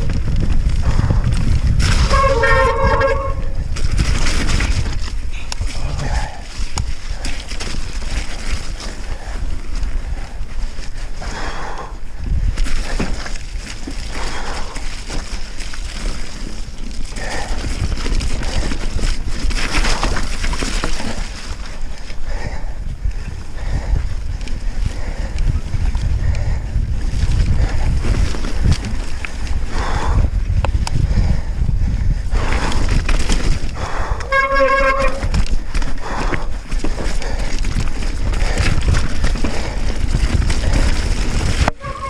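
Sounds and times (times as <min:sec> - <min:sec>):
bike rattling over rough ground: 0:00.0 - 0:42.0
bike tyre noise: 0:00.0 - 0:42.0
wind buffeting microphone: 0:00.0 - 0:42.0.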